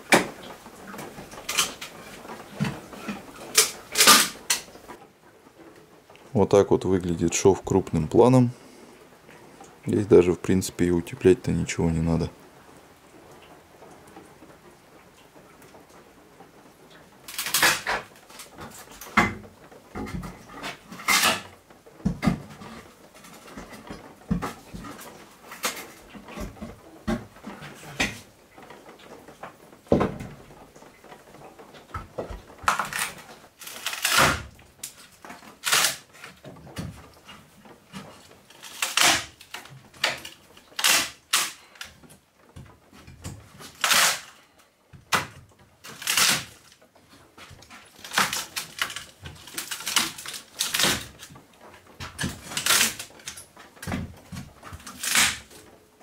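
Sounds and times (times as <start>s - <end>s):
wood creaking and cracking: 0.0s - 56.0s.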